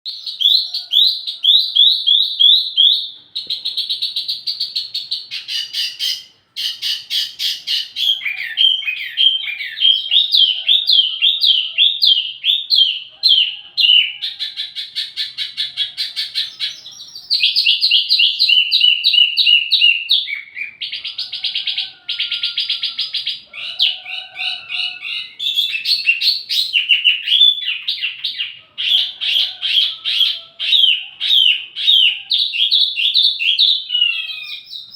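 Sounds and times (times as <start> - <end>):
songbird chirping and trilling: 0.1 - 34.9.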